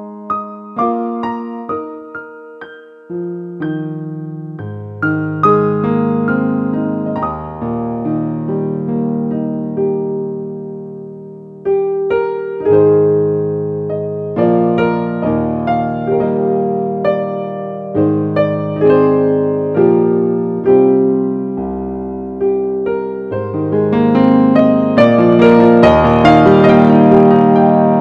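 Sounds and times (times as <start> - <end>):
piano notes and chords: 0.0 - 28.0.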